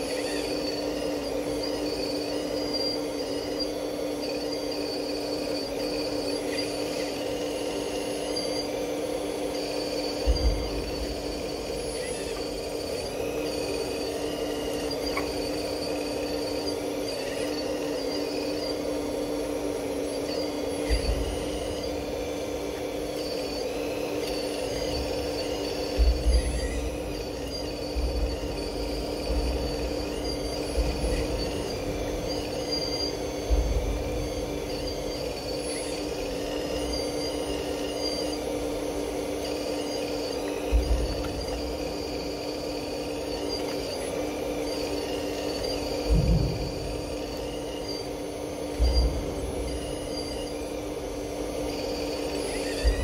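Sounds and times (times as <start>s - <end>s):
model excavator electric whine: 0.0s - 53.0s.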